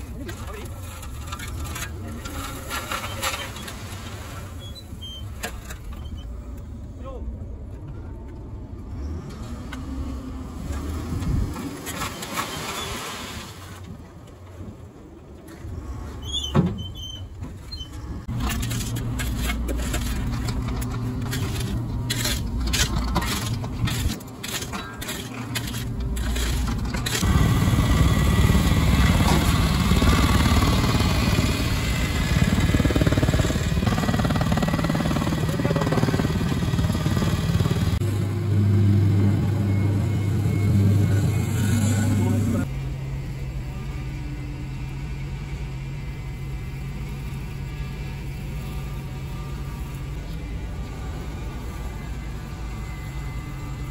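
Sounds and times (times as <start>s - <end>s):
paving machinery running: 0.0s - 12.2s, 17.4s - 53.9s.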